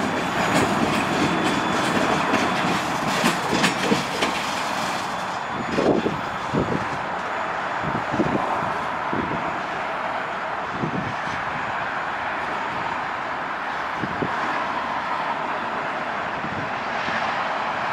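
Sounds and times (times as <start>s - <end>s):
train cars rolling on rails: 0.0s - 17.9s.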